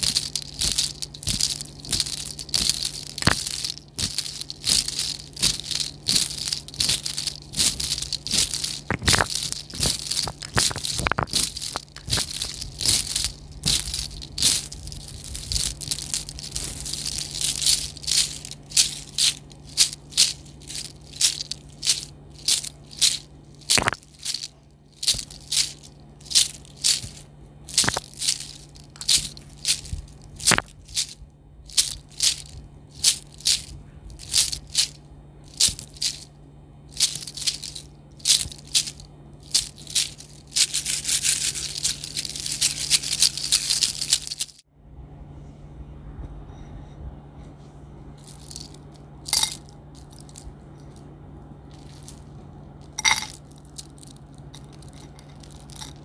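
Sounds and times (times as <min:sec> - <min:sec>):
dry rattling crackle: 0:00.0 - 0:44.6, 0:48.2 - 0:56.0
steady low hum: 0:00.0 - 0:56.0.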